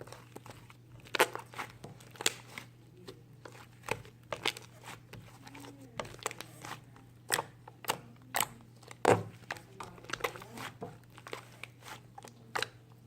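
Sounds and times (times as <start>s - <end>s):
crinkles and clicks of handling: 0.0s - 13.0s.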